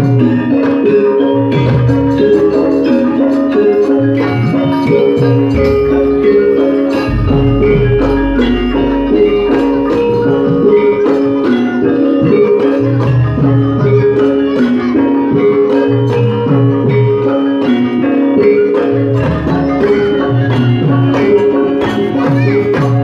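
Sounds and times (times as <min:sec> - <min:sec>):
gamelan music: 0:00.0 - 0:23.0.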